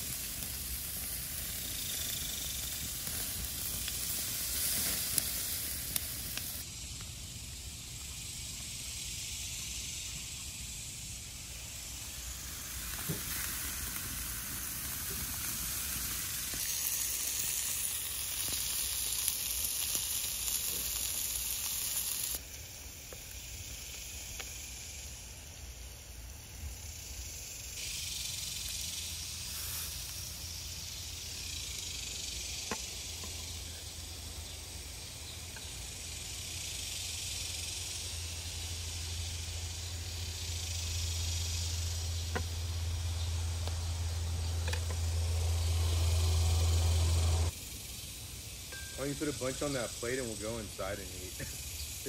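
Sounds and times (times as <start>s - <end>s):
steak sizzling on grill: 0.0s - 7.0s, 8.0s - 25.2s, 27.7s - 52.0s.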